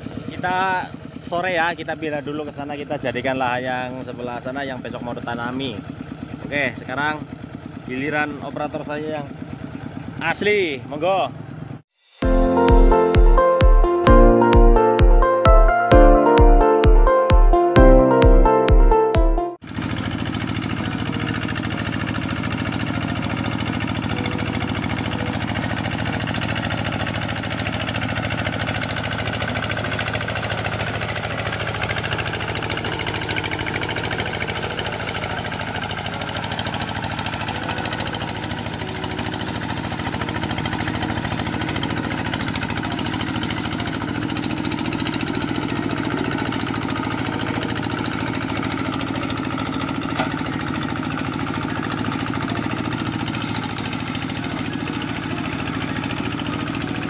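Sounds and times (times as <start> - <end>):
diesel engine knocking steadily: 0.0 - 11.8, 19.6 - 57.0.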